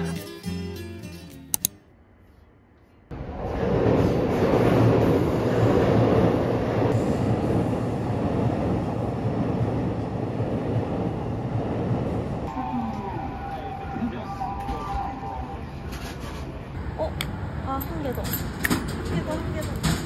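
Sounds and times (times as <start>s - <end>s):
train rumbling over steel bridge: 3.1s - 20.0s.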